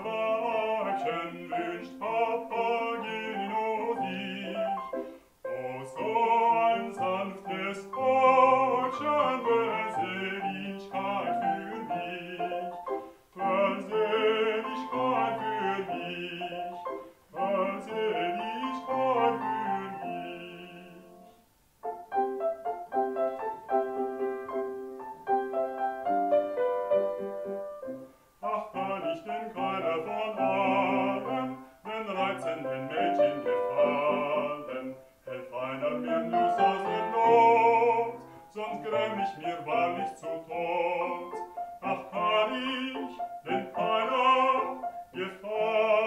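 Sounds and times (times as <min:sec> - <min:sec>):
man singing with vibrato: 0:00.0 - 0:21.6, 0:28.4 - 0:46.0
piano accompaniment: 0:00.0 - 0:46.0.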